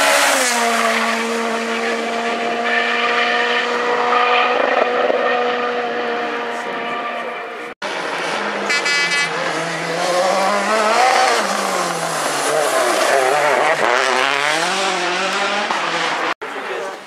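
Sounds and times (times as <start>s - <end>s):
rally car engine revving: 0.0s - 16.4s.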